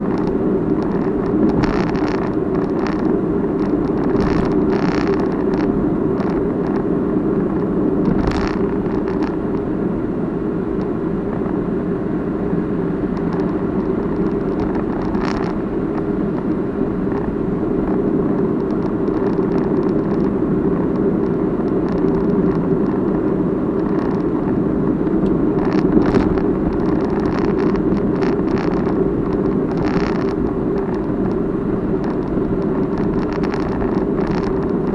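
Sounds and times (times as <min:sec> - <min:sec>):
clattering rattle of camera: 0:00.0 - 0:06.9, 0:07.5 - 0:09.7, 0:13.1 - 0:23.2, 0:23.8 - 0:34.9
car cabin and road noise: 0:00.0 - 0:34.9.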